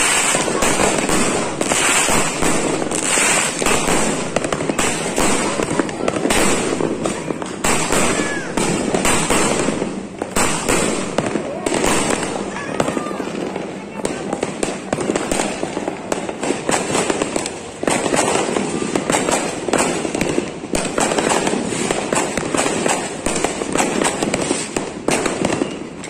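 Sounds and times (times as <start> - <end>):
fireworks and firecrackers banging: 0.0 - 26.0.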